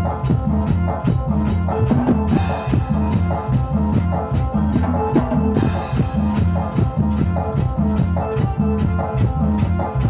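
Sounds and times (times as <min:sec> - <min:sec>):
live band playing instrumental: 0:00.0 - 0:10.0.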